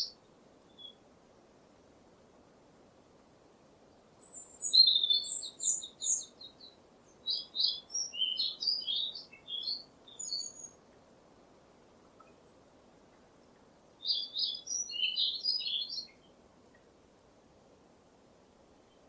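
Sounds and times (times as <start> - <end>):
songbird chirps and trills: 0.0 - 1.9, 3.4 - 17.0
faint background hiss: 0.0 - 19.0.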